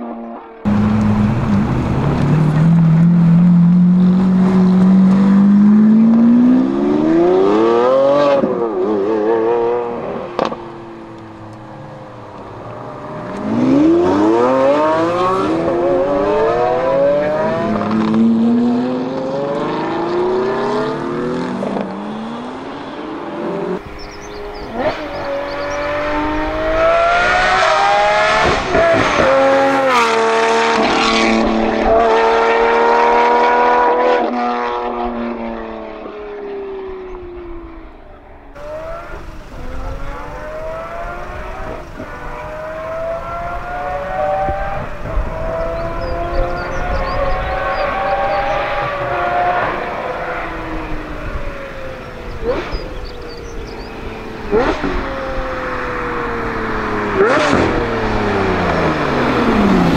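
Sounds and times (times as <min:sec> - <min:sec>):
sports car accelerating hard: 0:00.0 - 0:59.9.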